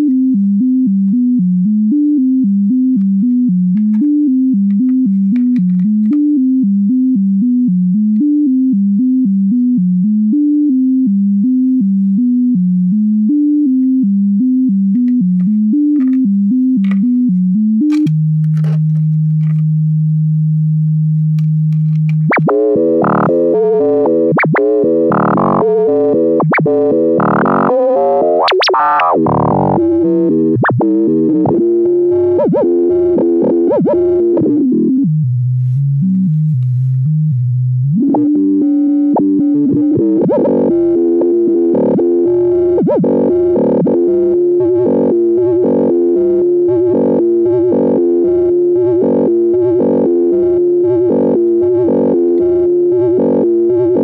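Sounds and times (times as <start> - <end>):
dense buzzy synth tone: 0.0 - 54.0
sine tone oscillator notes: 0.0 - 54.0.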